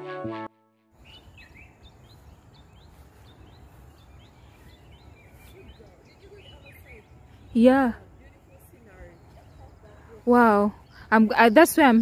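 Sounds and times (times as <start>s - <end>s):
bird chirping: 1.0s - 12.0s.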